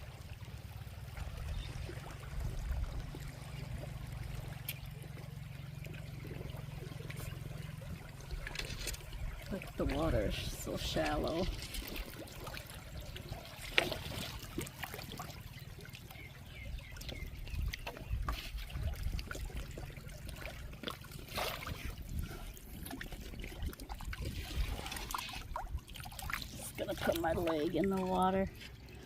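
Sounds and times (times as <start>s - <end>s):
water trickling and splashing: 0.0s - 29.0s.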